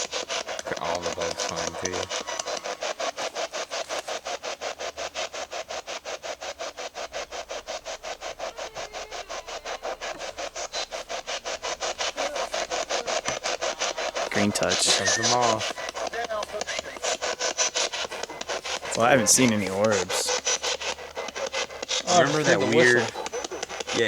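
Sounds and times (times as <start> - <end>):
pulsing radio static: 0.0 - 3.8, 7.4 - 24.0.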